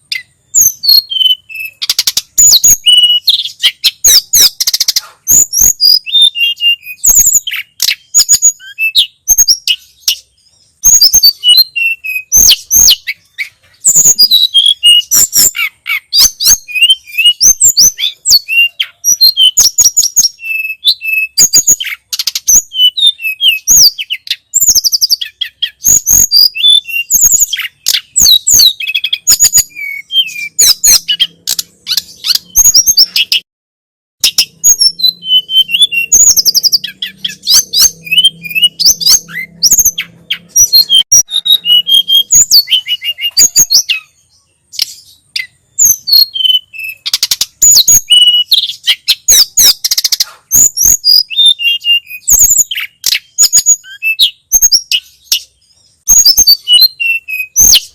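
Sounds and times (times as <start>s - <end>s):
songbird chirping and trilling: 0.0s - 33.5s, 34.2s - 57.9s.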